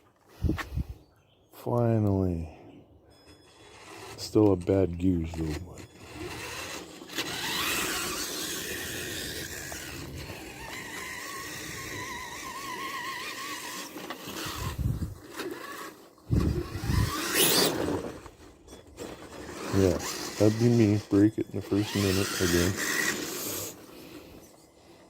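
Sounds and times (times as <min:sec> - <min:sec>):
toy truck motor whining: 0:03.1 - 0:25.0.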